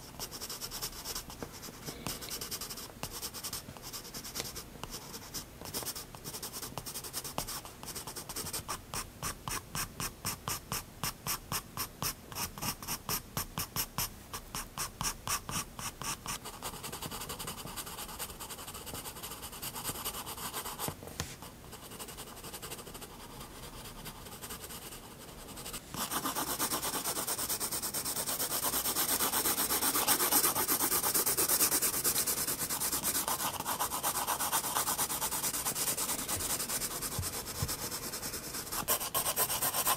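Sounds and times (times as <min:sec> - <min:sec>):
pencil scratching on paper: 0:00.0 - 0:21.0, 0:21.7 - 0:39.9.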